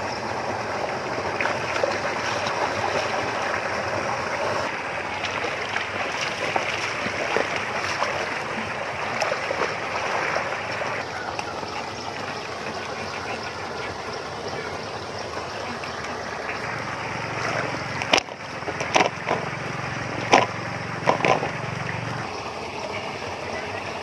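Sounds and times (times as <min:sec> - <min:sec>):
low motor hum: 0:00.0 - 0:24.0
rushing water: 0:00.0 - 0:24.0.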